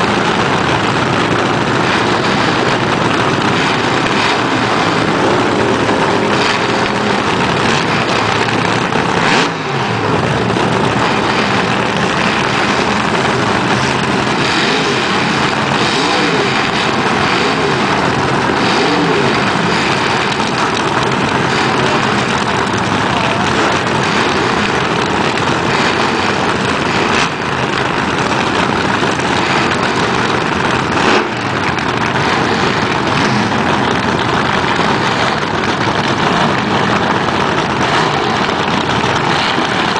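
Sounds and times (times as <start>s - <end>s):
dragster engines cackling: 0.0s - 39.9s.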